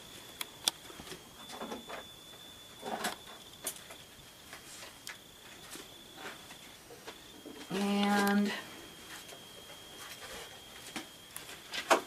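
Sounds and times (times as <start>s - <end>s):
faint high-pitched whine: 0.0s - 12.0s.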